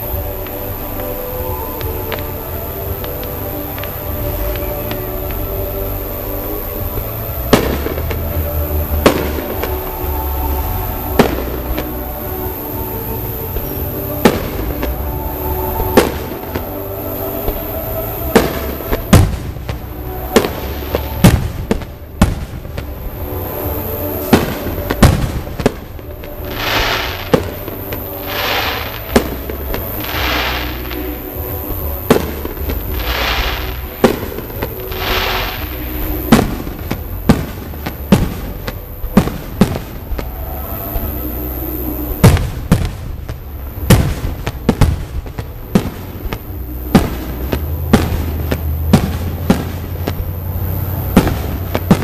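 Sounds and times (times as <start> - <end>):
firework hissing: 0.0 - 52.0
firework shells bursting: 0.0 - 52.0.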